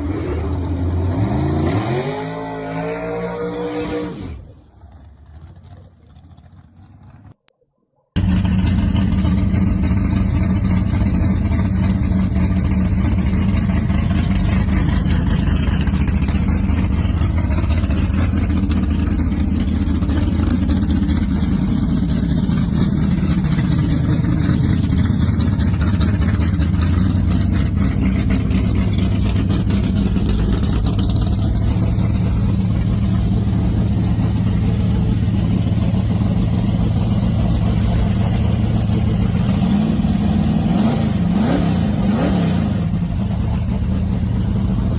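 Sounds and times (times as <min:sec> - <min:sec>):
faint engine: 0:00.0 - 0:07.5, 0:08.1 - 0:44.9
car engine running: 0:08.2 - 0:44.9.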